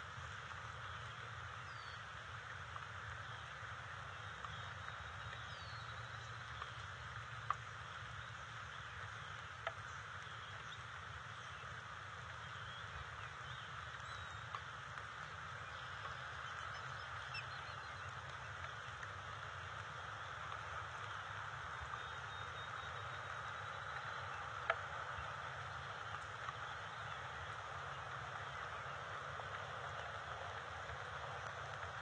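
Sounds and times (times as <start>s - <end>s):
distant bird calls: 0.0s - 32.0s
microphone hiss: 0.0s - 32.0s.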